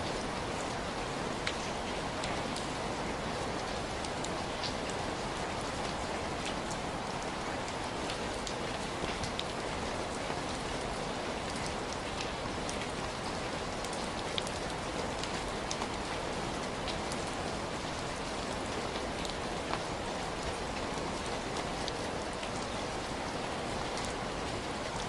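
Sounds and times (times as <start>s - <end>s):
heavy rain falling: 0.0s - 25.0s
raindrops ticking on a surface: 0.0s - 25.0s.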